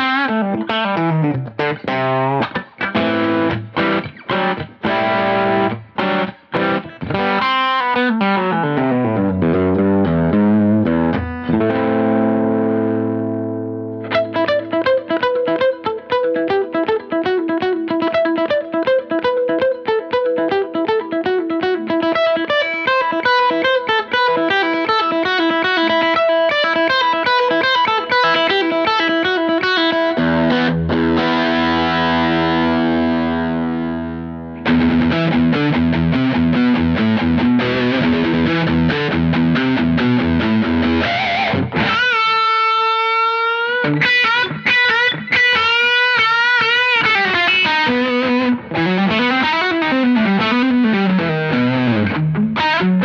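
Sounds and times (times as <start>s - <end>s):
distorted electric guitar riffs: 0.0s - 53.0s.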